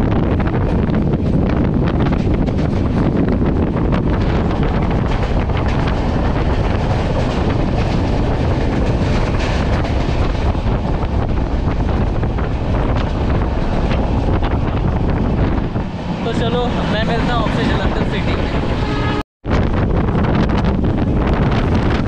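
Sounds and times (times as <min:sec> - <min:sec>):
train wheels rumbling on track: 0:00.0 - 0:22.0
wind buffeting microphone: 0:00.0 - 0:22.0.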